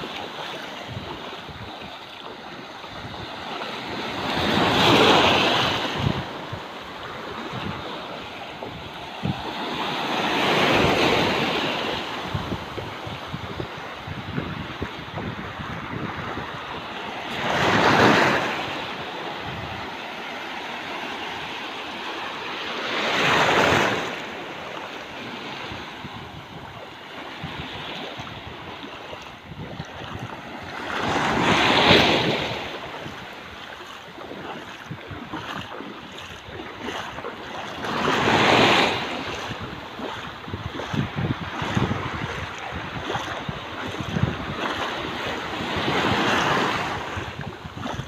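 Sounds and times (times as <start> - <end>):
waves washing up a beach: 0.0 - 48.0.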